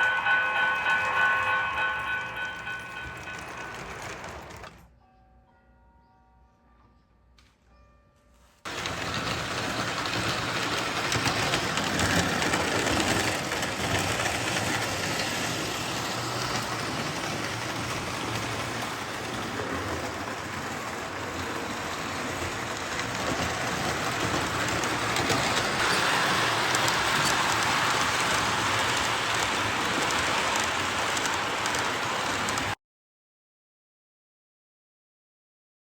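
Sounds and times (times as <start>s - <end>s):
model train clattering on track: 0.0s - 4.9s, 8.7s - 32.8s.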